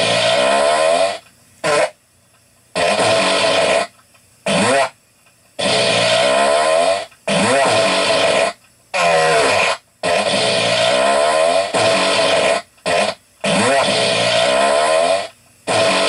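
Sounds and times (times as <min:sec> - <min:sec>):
buzzy fart sounds: 0:00.0 - 0:02.0, 0:02.7 - 0:05.0, 0:05.6 - 0:16.0.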